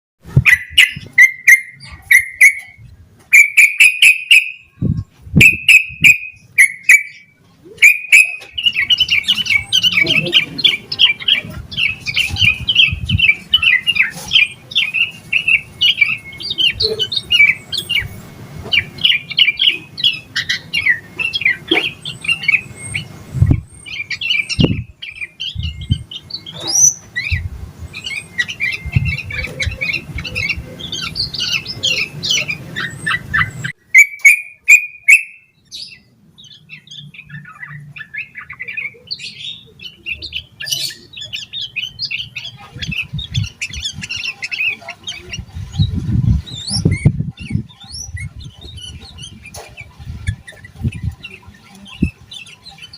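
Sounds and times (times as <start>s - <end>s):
bird chattering song: 0.2s - 52.9s.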